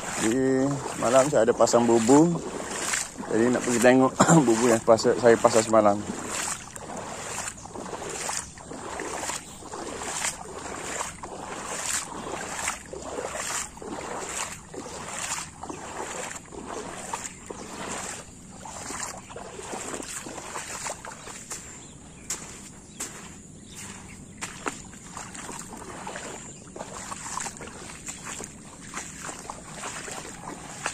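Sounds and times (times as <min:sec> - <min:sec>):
footsteps splashing through water: 0:00.0 - 0:30.9.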